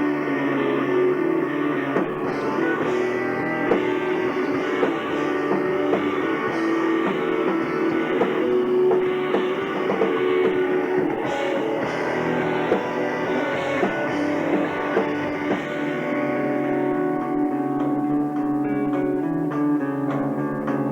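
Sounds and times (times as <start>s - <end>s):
guitar: 0.0s - 20.9s
live rock band playing: 0.0s - 20.9s.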